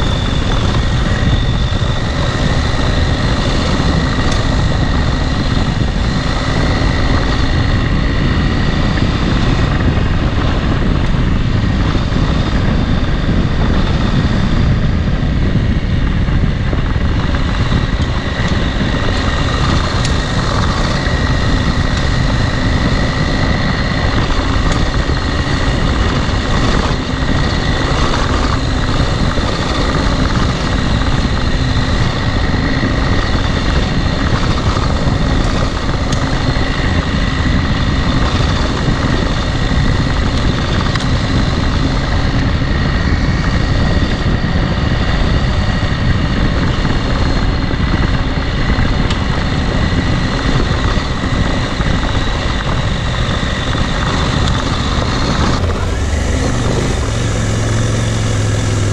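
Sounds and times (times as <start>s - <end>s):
motorcycle engine running: 0.0s - 58.9s
wind rushing over microphone: 0.0s - 58.9s.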